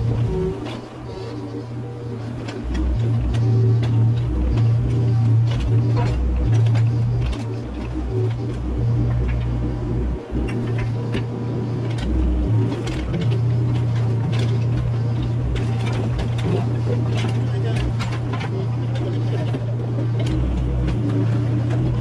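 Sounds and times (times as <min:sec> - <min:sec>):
excavator diesel engine working: 0:00.0 - 0:22.0.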